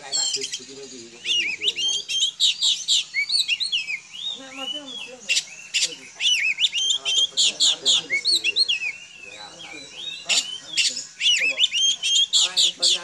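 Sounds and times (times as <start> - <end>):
harsh bird notes: 0.0 - 13.0
songbird singing: 0.0 - 13.0.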